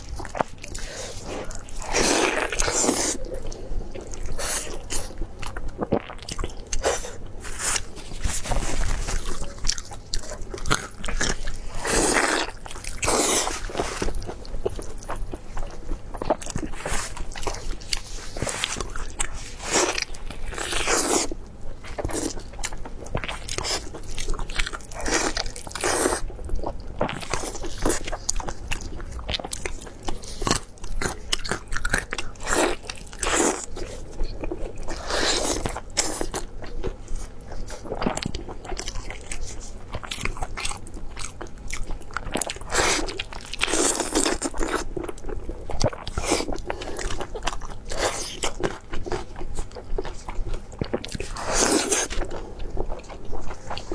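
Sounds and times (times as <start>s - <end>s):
crunchy bites and chewing: 0.0s - 53.9s.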